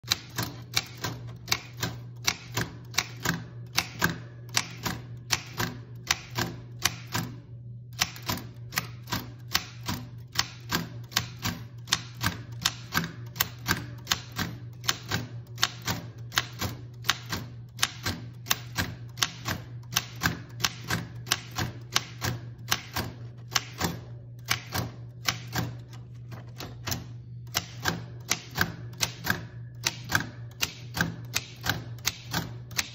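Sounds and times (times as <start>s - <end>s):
typewriter keys striking: 0.0s - 7.3s, 8.0s - 32.9s.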